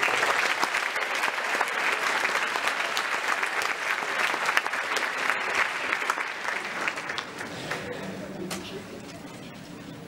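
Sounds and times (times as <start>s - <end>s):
large audience applauding: 0.0s - 8.2s.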